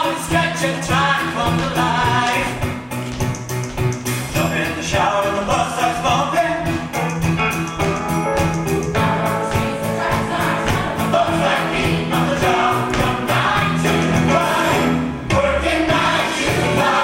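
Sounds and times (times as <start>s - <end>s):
song with singing voices: 0.0s - 17.0s.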